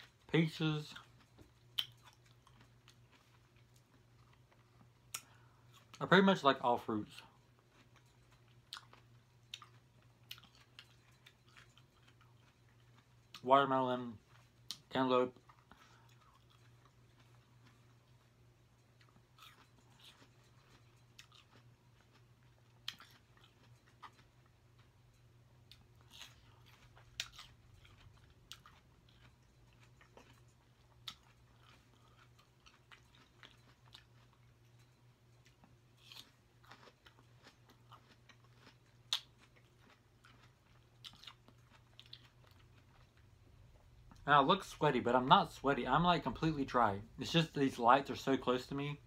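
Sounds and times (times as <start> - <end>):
person chewing fruit: 0.0 - 6.0, 7.1 - 47.2.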